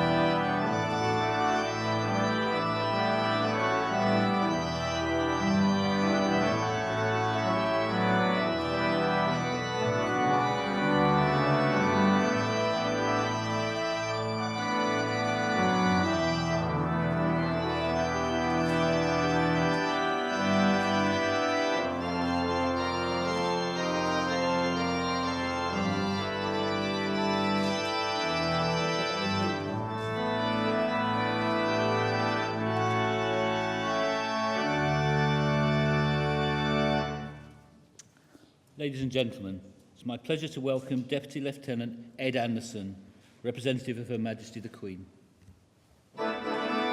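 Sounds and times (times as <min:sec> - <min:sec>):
organ playing sustained chords: 0:00.0 - 0:37.7, 0:46.2 - 0:46.9.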